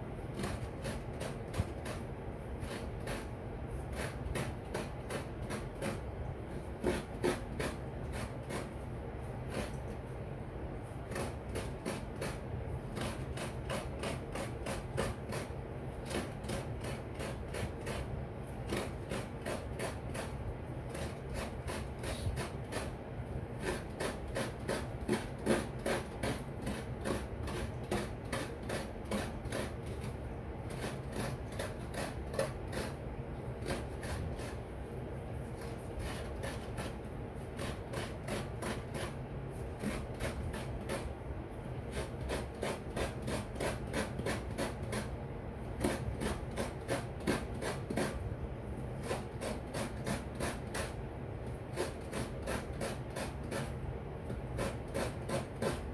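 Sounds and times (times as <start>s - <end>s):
coconut grating rasping strokes: 0.2s - 10.2s, 10.8s - 55.9s.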